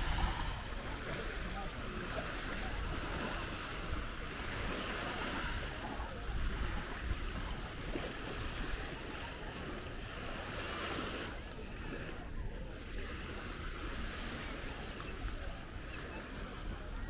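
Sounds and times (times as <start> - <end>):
small waves lapping on beach: 0.0 - 17.0
wind rumbling on microphone: 0.0 - 17.0.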